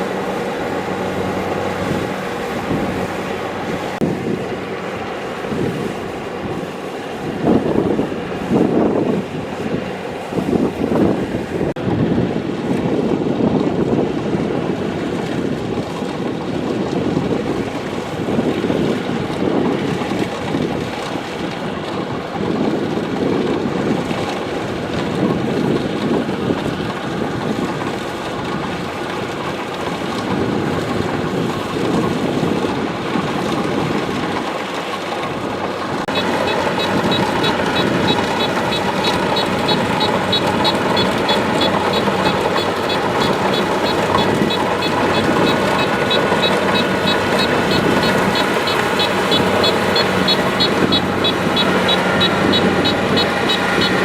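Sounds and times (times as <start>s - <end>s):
combine harvester engine and machinery: 0.0s - 54.0s.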